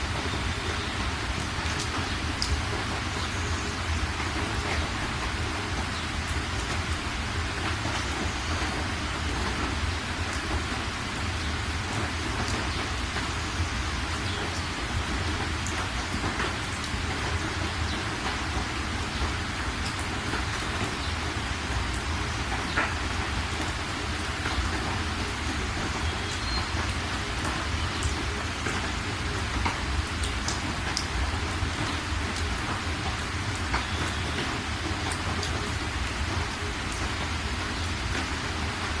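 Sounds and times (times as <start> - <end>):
raindrops ticking: 0.0 - 39.0
steady rain hiss: 0.0 - 39.0.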